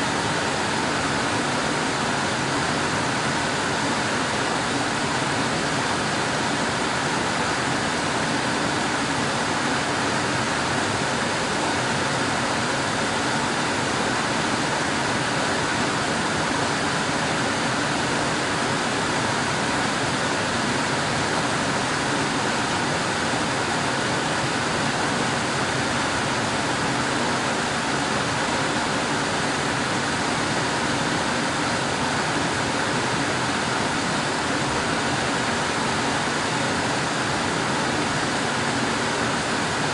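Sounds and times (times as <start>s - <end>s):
air conditioner blowing air: 0.0s - 39.9s.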